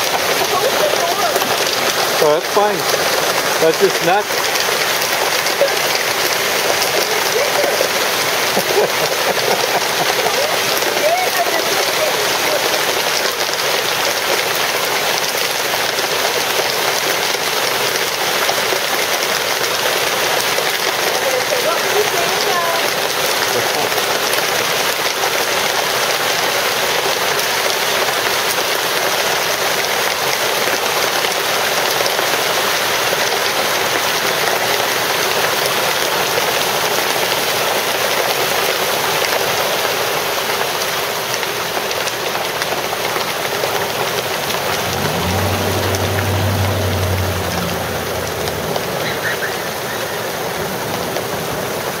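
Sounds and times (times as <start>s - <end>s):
hailstones hitting pavement: 0.0s - 52.0s.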